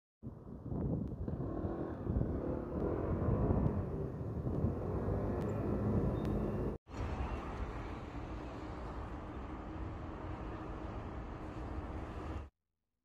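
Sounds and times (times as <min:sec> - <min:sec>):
road traffic passing: 0:00.3 - 0:12.5.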